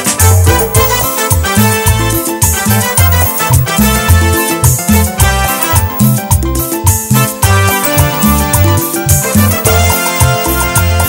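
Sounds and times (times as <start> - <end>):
bass line: 0.0 - 11.0
percussion: 0.0 - 11.0
sustained melodic instruments: 0.4 - 11.0.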